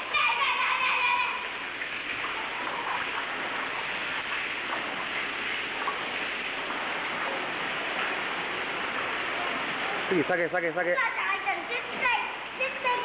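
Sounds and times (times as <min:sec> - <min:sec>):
waterfall splashing into pool: 0:00.0 - 0:13.0.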